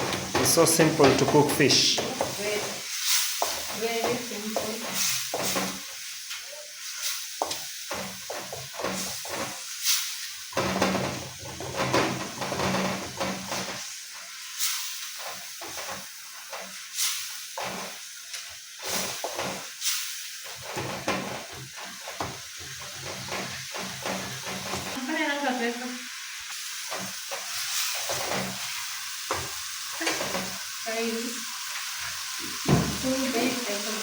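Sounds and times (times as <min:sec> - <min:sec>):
spoon scraping a pan: 0:00.0 - 0:25.0, 0:26.8 - 0:30.8
sauce sizzling in a pan: 0:00.0 - 0:34.0.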